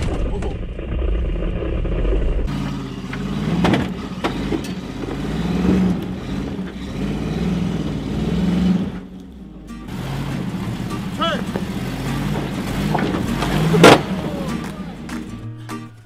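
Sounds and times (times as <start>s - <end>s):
engine revving under load: 0.0s - 15.3s.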